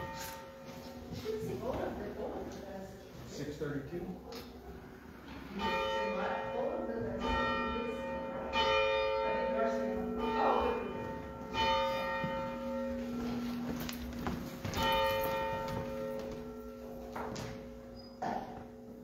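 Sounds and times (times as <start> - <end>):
church bell tolling: 0.0 - 2.2, 5.3 - 19.0.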